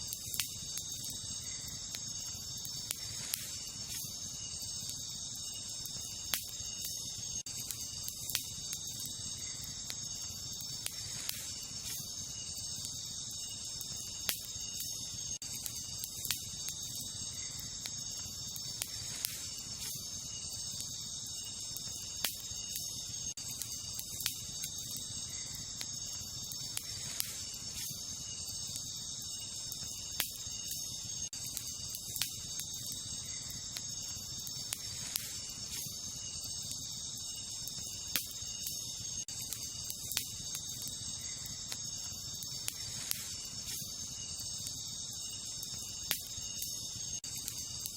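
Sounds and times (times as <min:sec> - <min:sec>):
campfire crackling and popping: 0:00.0 - 0:47.9
crickets and night insects: 0:00.0 - 0:47.9.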